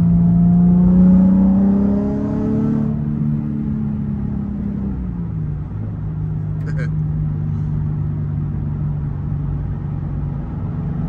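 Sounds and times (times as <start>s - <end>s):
car engine at cruise from inside: 0.0s - 11.0s.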